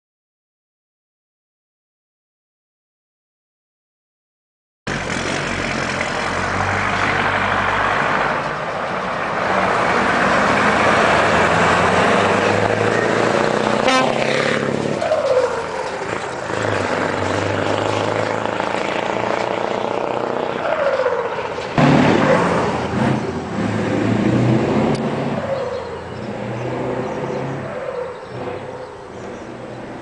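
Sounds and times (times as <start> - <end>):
diesel truck engine under load: 4.9 - 30.0.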